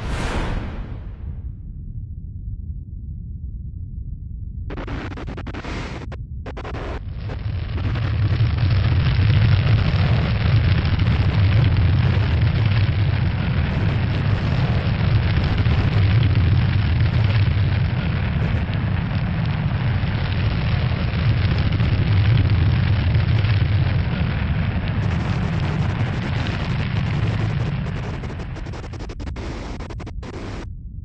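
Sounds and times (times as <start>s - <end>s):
loud low rumble: 0.0s - 31.0s.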